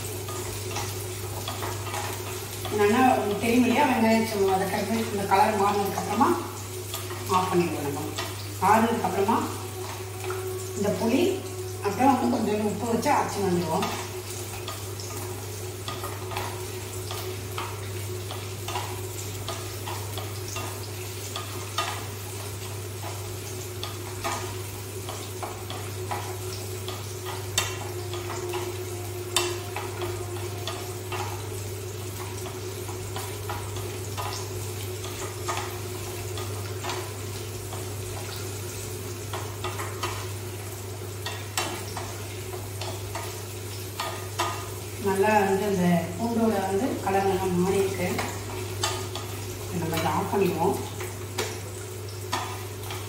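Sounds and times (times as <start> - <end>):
garlic and onions sizzling in oil: 0.0 - 53.0.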